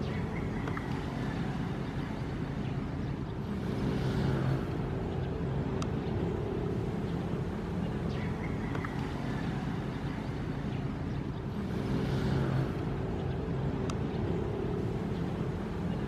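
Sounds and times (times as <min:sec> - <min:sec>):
ocean surf rumble: 0:00.0 - 0:16.0.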